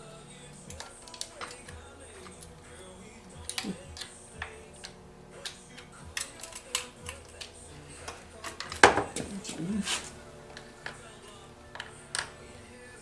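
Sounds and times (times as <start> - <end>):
metal tools and parts clicking: 0.6 - 12.6.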